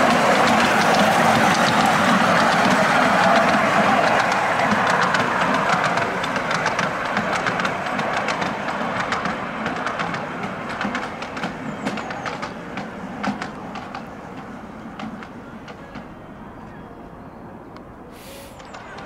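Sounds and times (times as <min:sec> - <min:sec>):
miniature train wheels clicking: 0:00.0 - 0:16.2, 0:18.2 - 0:19.0.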